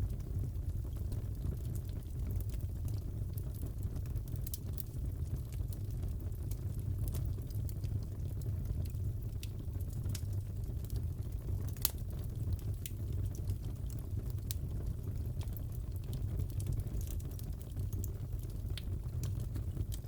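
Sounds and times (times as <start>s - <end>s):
fire pops and snaps: 0.0s - 20.0s
low rumble of burning logs: 0.0s - 20.0s.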